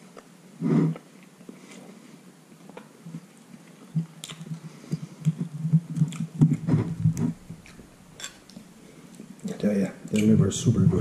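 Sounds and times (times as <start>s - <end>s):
man chewing food: 0.0s - 10.3s.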